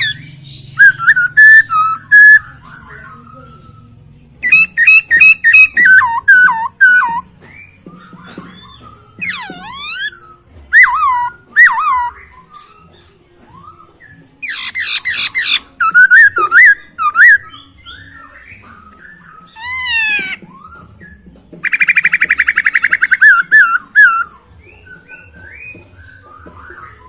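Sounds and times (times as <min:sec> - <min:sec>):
bird whistled song: 0:00.0 - 0:27.0.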